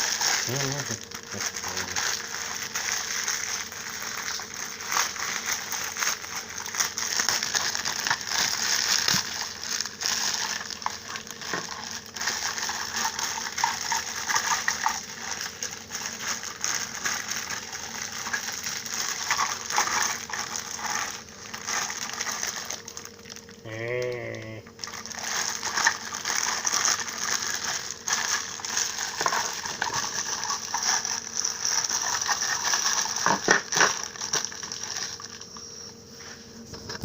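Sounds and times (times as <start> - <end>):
plastic parts clattering: 0.0 - 22.8, 24.9 - 35.4
plastic packaging rustling: 0.0 - 23.6, 24.7 - 35.6.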